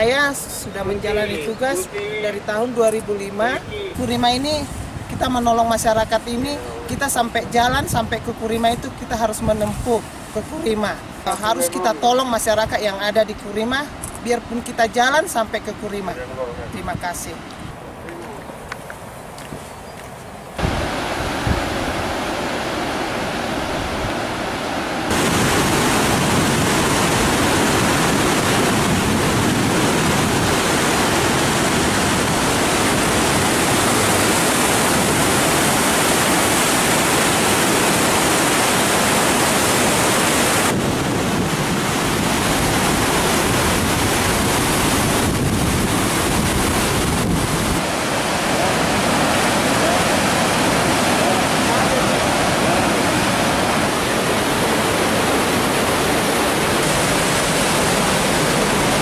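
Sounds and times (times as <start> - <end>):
river rushing over rapids: 0.0 - 7.6, 8.4 - 14.0, 20.3 - 59.0.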